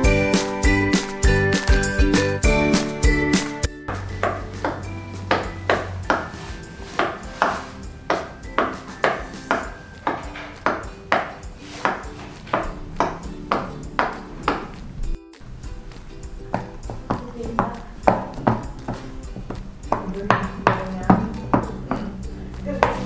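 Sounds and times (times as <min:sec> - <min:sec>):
background music with tapping beat: 0:00.0 - 0:23.0.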